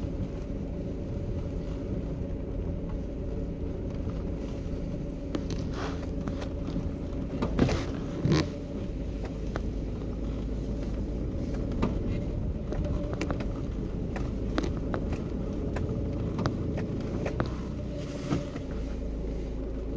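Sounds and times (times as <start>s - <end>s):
car rolling on gravel road: 0.0s - 19.9s
grit popping under tyres: 0.0s - 19.9s.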